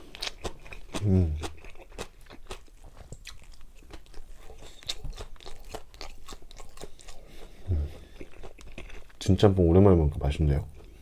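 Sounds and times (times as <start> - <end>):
chewing crunchy food: 0.0 - 9.6.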